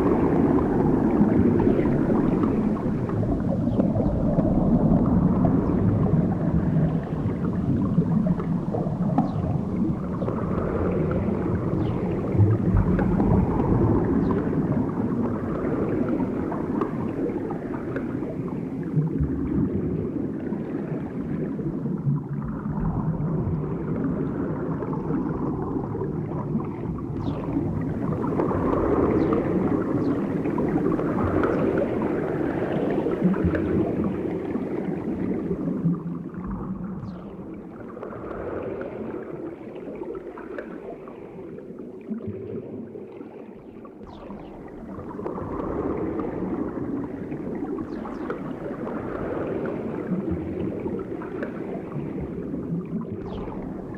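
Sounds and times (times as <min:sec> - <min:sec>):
underwater churning wash: 0:00.0 - 0:53.9.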